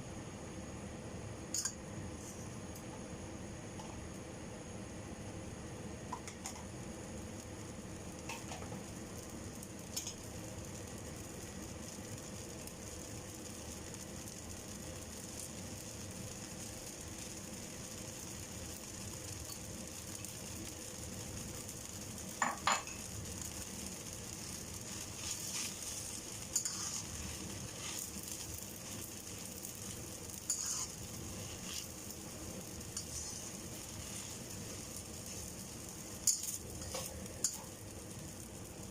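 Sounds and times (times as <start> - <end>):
noodles sizzling in a pan: 0.0 - 38.9.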